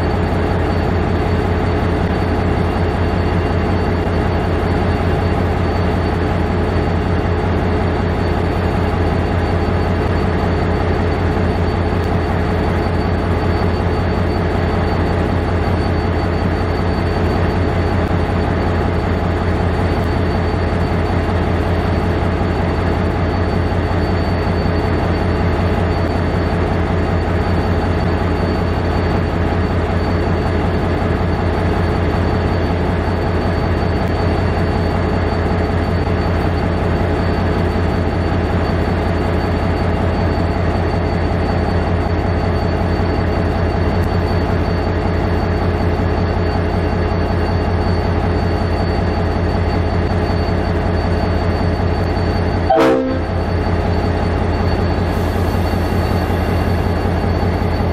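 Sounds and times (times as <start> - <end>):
diesel locomotive engine drone: 0.0 - 57.9.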